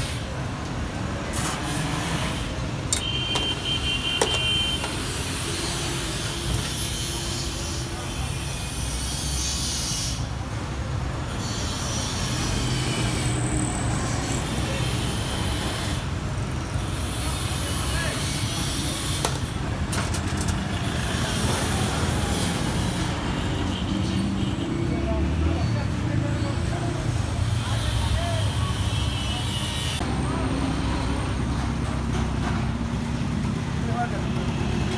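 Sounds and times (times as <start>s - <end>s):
street traffic rumble: 0.0s - 34.9s.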